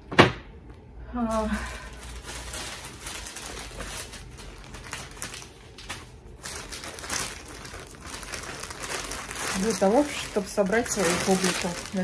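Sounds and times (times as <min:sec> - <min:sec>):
tissue paper and plastic crinkling: 0:01.2 - 0:12.0.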